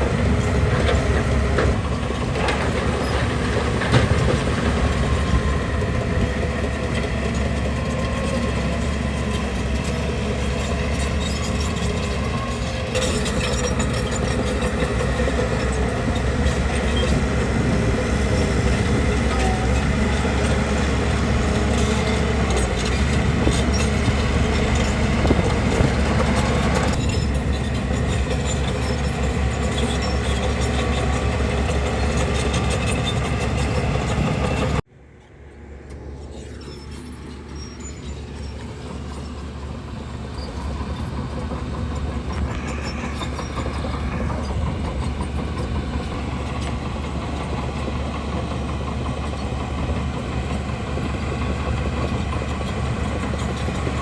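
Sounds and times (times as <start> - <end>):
steel tracks clanking: 0.0 - 34.8, 36.0 - 54.0
bulldozer diesel engine running: 0.0 - 54.0.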